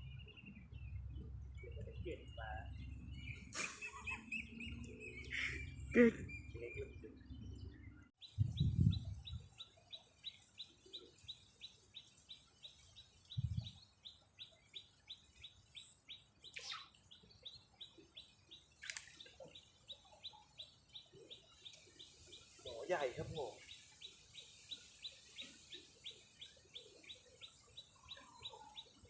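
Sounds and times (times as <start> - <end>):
bird chirping: 0.0 - 29.0.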